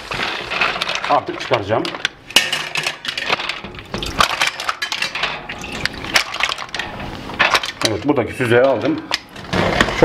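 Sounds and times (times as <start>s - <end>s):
mussel shells clattering in bowl: 0.0s - 10.0s.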